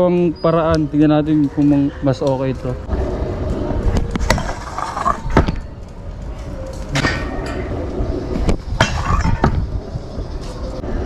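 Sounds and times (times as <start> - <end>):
scooter wheels rumbling on concrete: 0.8 - 11.0.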